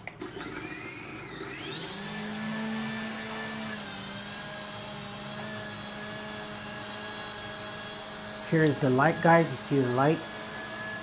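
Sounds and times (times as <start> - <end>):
toy helicopter rotor whine: 0.4 - 11.0.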